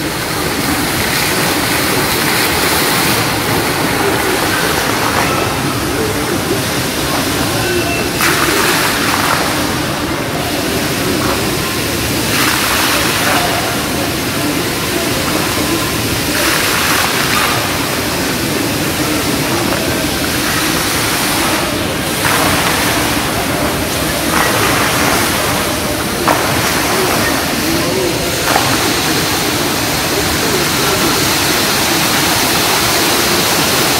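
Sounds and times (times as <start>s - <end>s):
indoor fountain water falling: 0.0s - 33.9s
murmur of voices: 0.0s - 33.9s.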